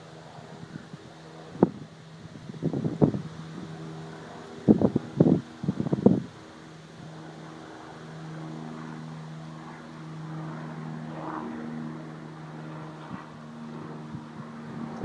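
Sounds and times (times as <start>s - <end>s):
distant propeller aircraft drone: 0.0s - 15.0s.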